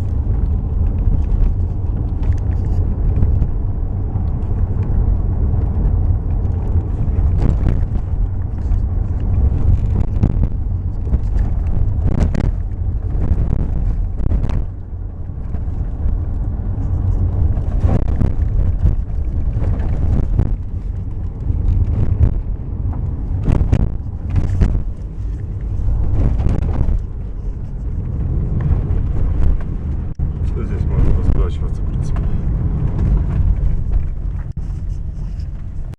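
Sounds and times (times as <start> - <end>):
car road rumble: 0.0 - 35.9.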